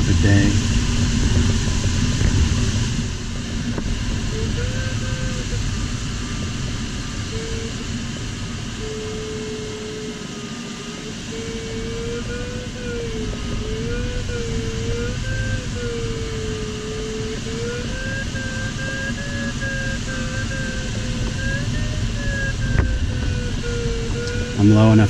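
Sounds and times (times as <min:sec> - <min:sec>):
cockpit airflow noise: 0:00.0 - 0:25.0
variometer tone wavering in pitch: 0:00.0 - 0:25.0.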